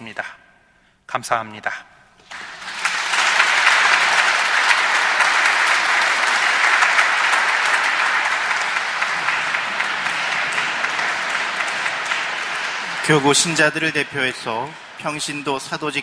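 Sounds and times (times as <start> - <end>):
congregation applauding: 2.2 - 16.0.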